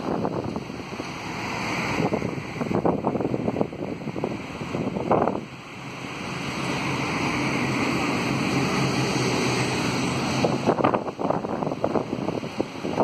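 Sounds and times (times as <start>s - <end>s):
motor engine hum: 0.0s - 13.0s.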